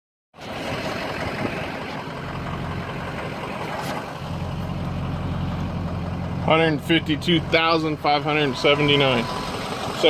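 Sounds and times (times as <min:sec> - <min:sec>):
diesel engine idling: 0:00.4 - 0:10.0.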